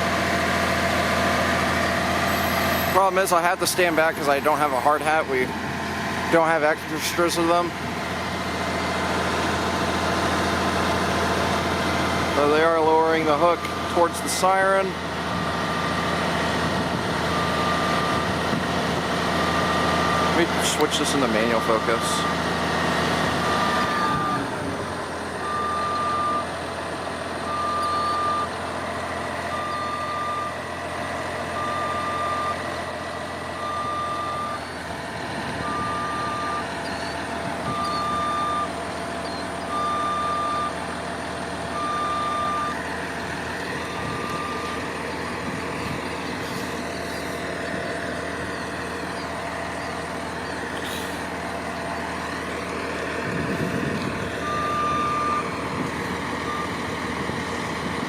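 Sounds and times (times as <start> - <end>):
truck warning alarm beeping: 0.0 - 5.5, 6.4 - 58.0
truck engine running: 0.0 - 58.0.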